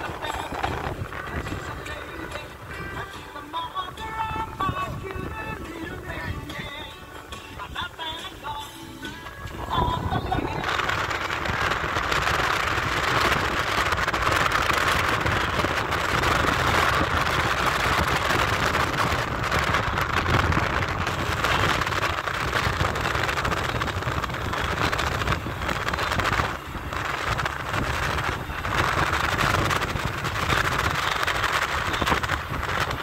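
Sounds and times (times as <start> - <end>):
tyre noise on road: 0.0 - 33.0
wind rushing past car window: 0.0 - 33.0.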